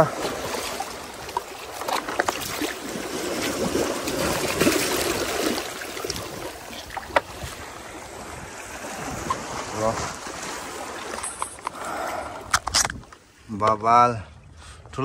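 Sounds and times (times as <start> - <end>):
sea water splashing among boulders: 0.0 - 13.1.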